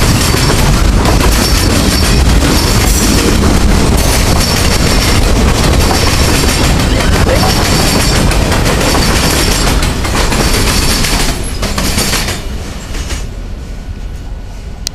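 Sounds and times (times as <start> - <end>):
wheels clacking over rail joints: 0.0 - 13.3
freight train cars rolling past: 0.0 - 14.9.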